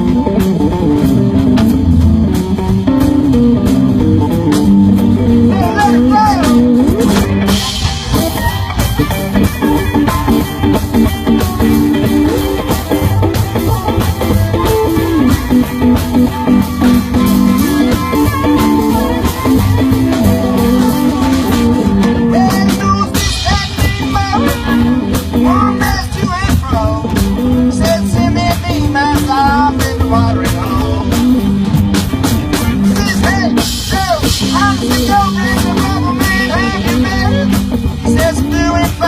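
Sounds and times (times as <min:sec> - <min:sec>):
guitar: 0:00.0 - 0:39.0
rockabilly band playing live: 0:00.0 - 0:39.0
steady drum beat: 0:00.0 - 0:39.0.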